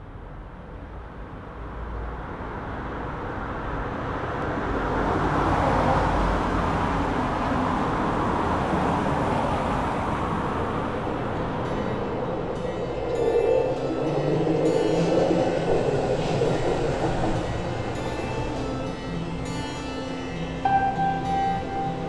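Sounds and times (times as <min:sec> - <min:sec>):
rush of passing cars: 0:00.1 - 0:22.0.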